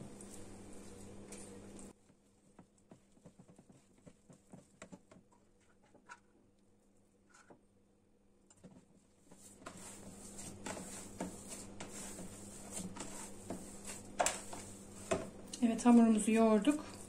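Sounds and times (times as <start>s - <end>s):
hand mixing dough in plastic bowl: 0.0s - 7.6s, 8.6s - 17.0s
low background hum: 0.0s - 17.0s.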